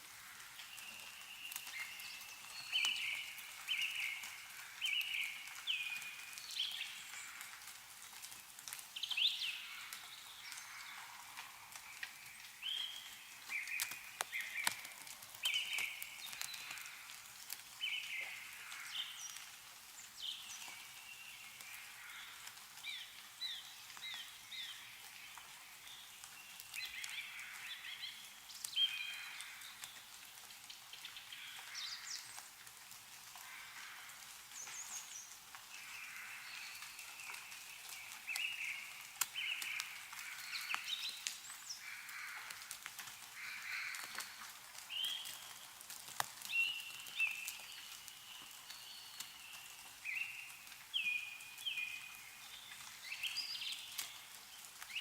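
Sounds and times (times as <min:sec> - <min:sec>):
melting snow dripping: 0:00.0 - 0:55.0
songbirds chirping: 0:00.0 - 0:55.0.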